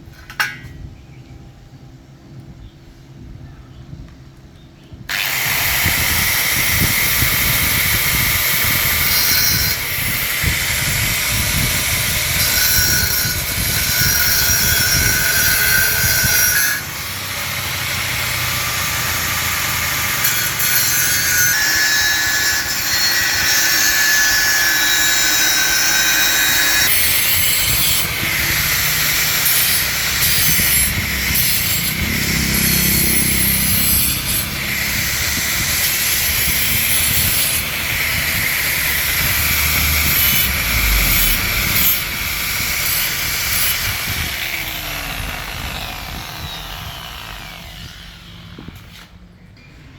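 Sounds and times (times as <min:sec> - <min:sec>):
power tool running under load: 0:05.1 - 0:49.0.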